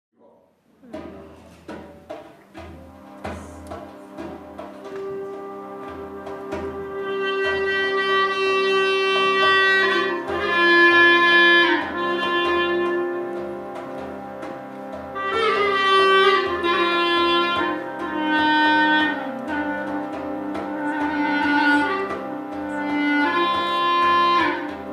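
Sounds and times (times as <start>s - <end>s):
frame drum beats: 0.8s - 24.9s
clarinet slow melody: 2.4s - 24.9s
harmonium drone: 2.6s - 24.9s.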